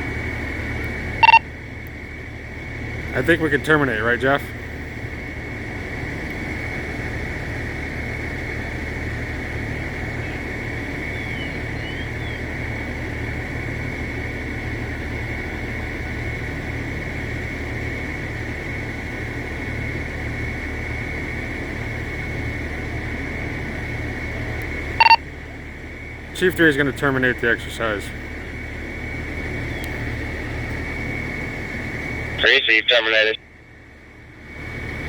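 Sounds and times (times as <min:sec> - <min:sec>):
machine drone with high whine: 0:00.0 - 0:35.0.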